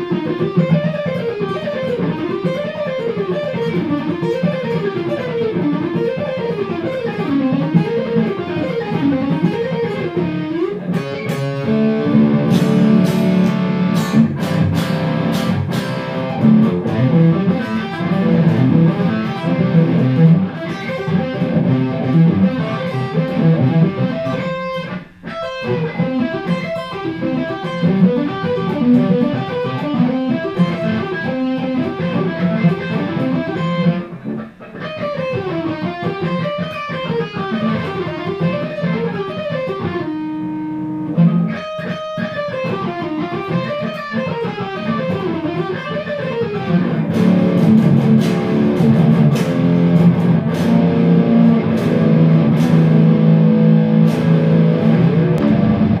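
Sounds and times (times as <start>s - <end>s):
shred electric guitar lead: 0.0s - 56.0s.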